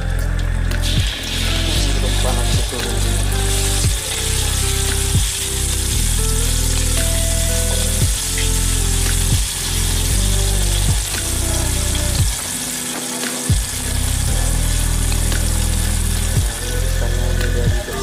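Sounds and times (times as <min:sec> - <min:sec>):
background music with beat: 0:00.0 - 0:18.0
fish sizzling in hot oil: 0:00.0 - 0:18.0.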